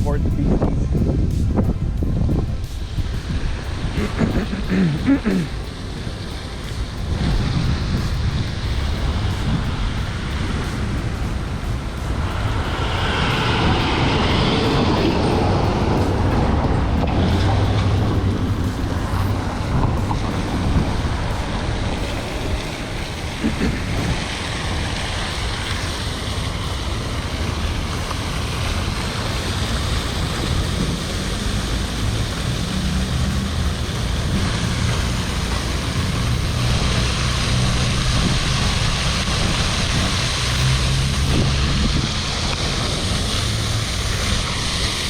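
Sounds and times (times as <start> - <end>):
street traffic rumble: 0.0 - 45.0
wind on microphone: 0.0 - 45.0.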